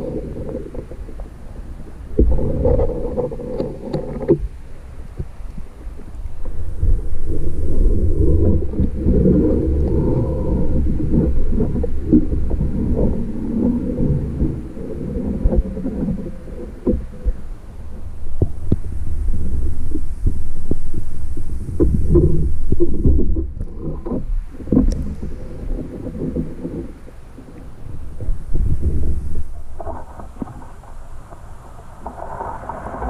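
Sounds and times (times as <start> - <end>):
muffled underwater stream rumble: 0.0 - 33.0.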